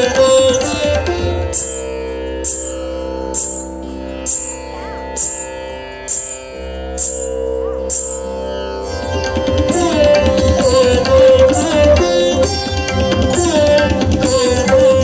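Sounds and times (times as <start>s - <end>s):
melody with bending notes: 0.0s - 15.0s
high shimmering percussion stroke: 1.0s - 13.5s.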